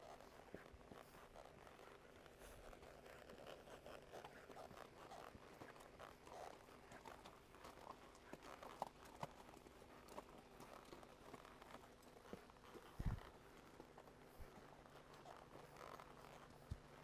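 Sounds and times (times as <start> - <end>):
horse hoof steps: 0.0 - 17.0.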